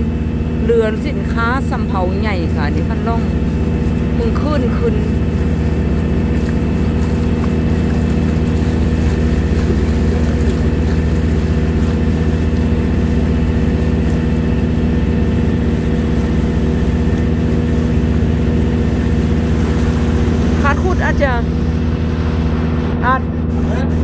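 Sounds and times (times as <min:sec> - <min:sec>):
boat engine running: 0:00.0 - 0:24.0
water splashing along hull: 0:00.0 - 0:24.0.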